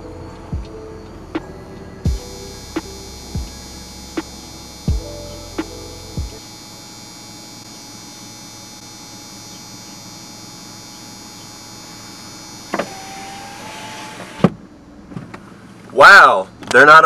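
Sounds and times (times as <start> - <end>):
car cabin hum and drone: 0.0 - 17.0
faint high whine: 0.0 - 17.0.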